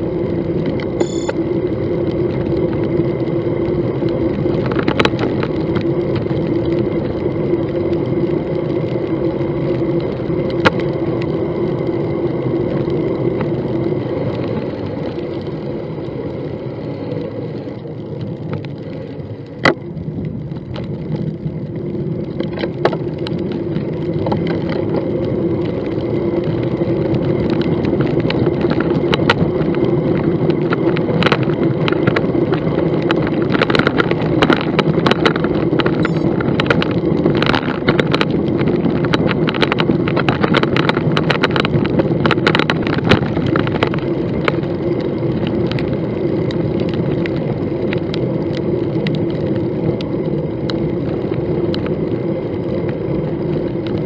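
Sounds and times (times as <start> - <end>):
bicycle clicks and rattles: 0.0 - 54.0
bicycle tyre road noise: 0.0 - 54.0.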